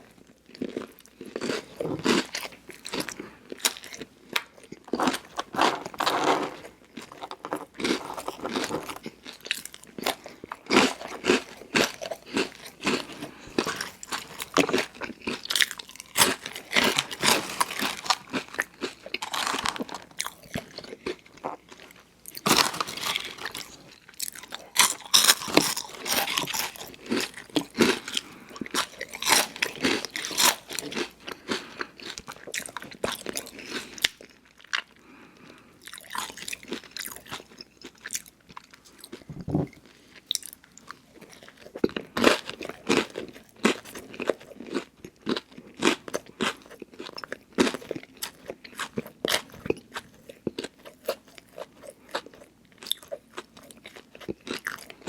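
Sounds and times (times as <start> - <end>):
crunchy bites and chewing: 0.5 - 35.0, 35.8 - 55.0.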